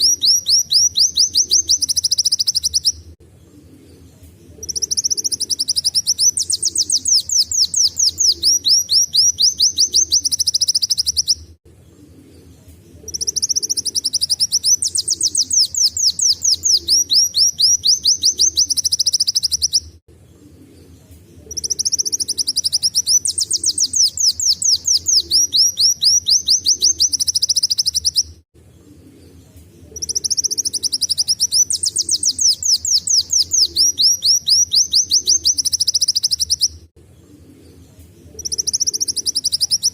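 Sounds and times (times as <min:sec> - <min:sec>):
sunbird singing trills: 0:00.0 - 0:03.2, 0:03.8 - 0:20.0, 0:20.8 - 0:28.4, 0:29.0 - 0:36.9, 0:37.6 - 0:39.9.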